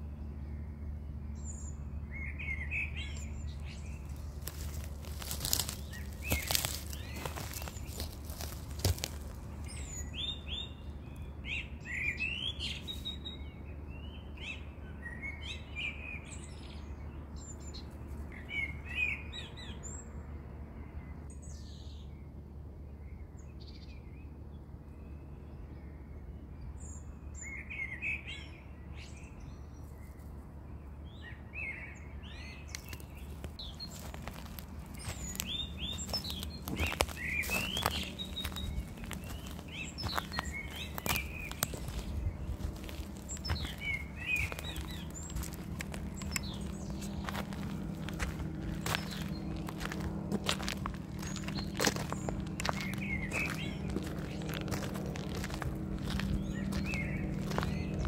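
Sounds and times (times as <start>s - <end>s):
small birds chirping: 0.0s - 20.1s, 31.0s - 58.0s
low outdoor hum: 0.0s - 58.0s.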